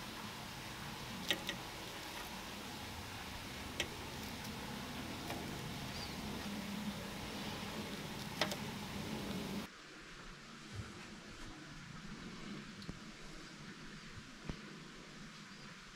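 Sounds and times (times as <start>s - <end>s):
steady low hiss: 0.0s - 15.9s.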